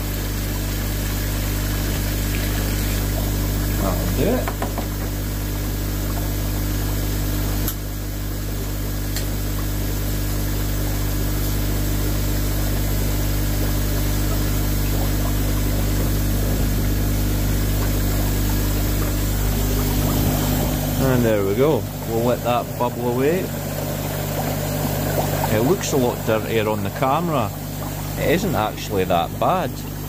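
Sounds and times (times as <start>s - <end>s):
water bubbling and churning: 0.0s - 9.7s, 11.6s - 30.0s
air pump humming: 0.0s - 30.0s.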